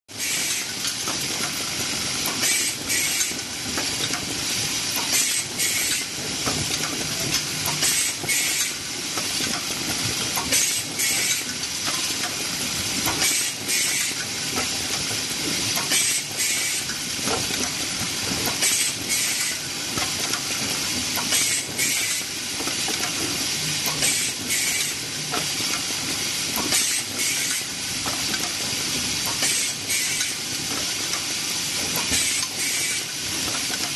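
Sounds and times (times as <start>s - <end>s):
welding machine mechanical clatter: 0.1s - 33.9s.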